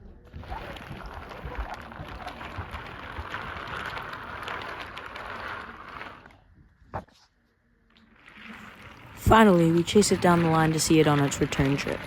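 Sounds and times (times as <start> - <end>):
toy train wheels rattling: 0.4 - 6.4, 8.1 - 12.0.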